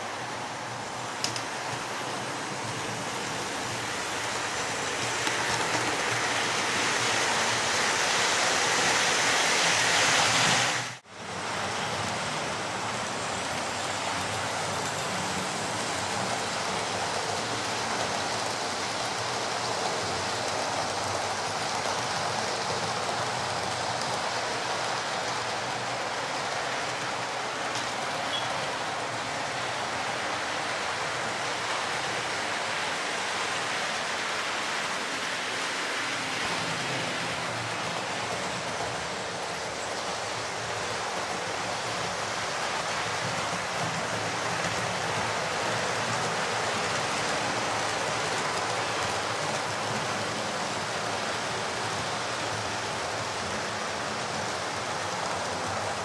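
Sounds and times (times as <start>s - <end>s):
model trains whirring on track: 0.0s - 56.0s.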